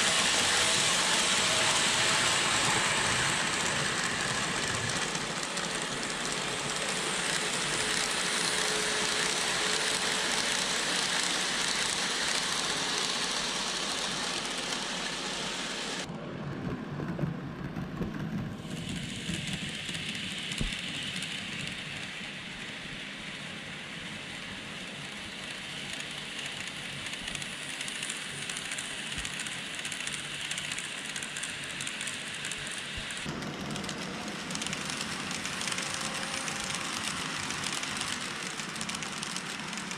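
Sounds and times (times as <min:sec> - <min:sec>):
model train running on track: 0:00.0 - 0:39.9.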